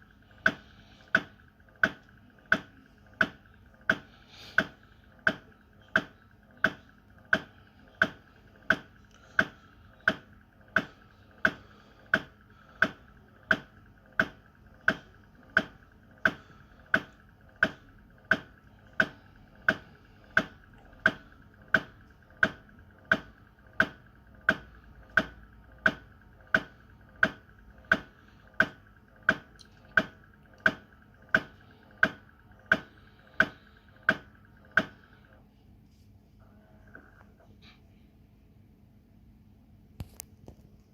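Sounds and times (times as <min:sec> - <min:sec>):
ice maker mechanism knocking: 0:00.4 - 0:35.3.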